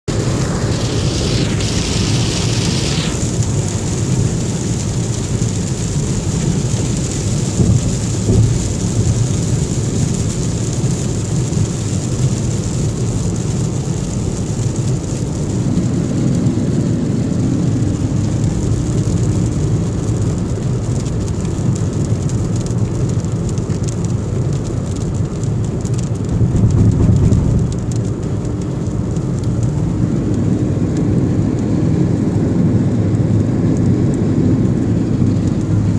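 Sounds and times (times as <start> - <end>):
deep rumble: 0.0 - 35.9
heavy rain pouring: 0.0 - 35.9.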